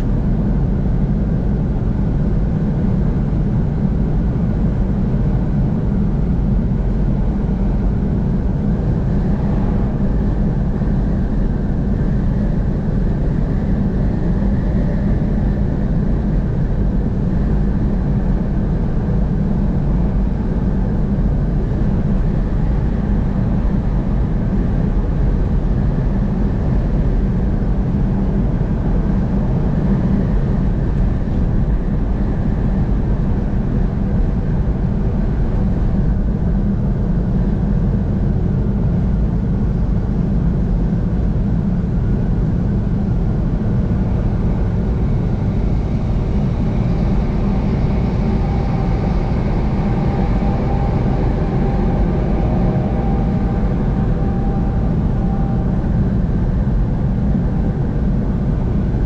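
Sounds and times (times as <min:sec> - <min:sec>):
faint whine: 0:00.0 - 0:59.0.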